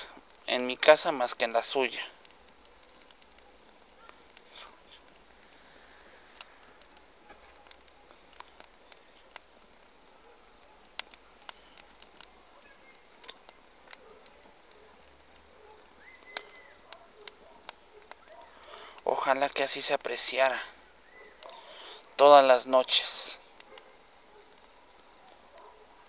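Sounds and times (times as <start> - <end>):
bonfire crackling and popping: 0.0 - 26.0
low hiss: 0.0 - 26.0.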